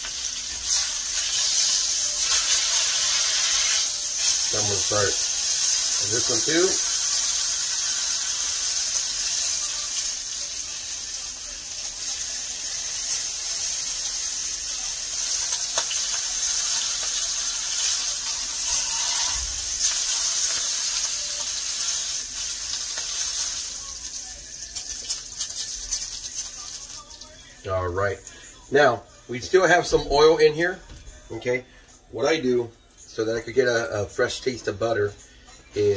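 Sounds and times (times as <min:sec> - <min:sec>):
oil sizzling in a skillet: 0:00.0 - 0:29.1.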